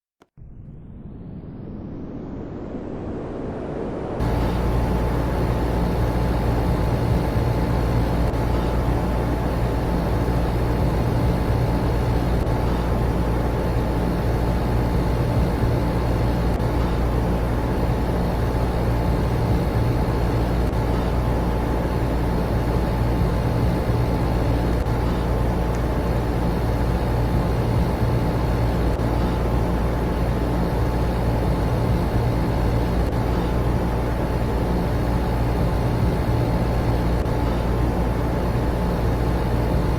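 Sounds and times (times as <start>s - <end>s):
air conditioner and fans whirring: 2.2s - 39.9s.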